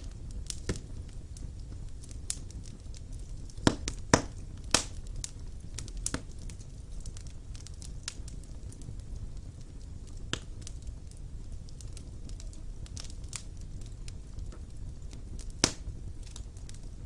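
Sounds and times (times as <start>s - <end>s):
fire flames rumbling: 0.0s - 17.0s
wood fire crackling and snapping: 0.0s - 17.0s.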